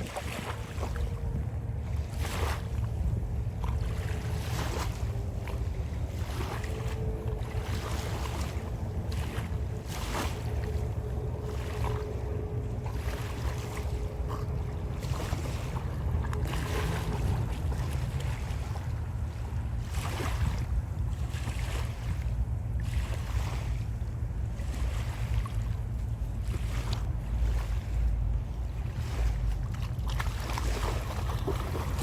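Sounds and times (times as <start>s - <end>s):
boat engine rumbling: 0.0s - 32.0s
water splashing and rushing: 0.0s - 32.0s
wind buffeting microphone: 0.0s - 32.0s.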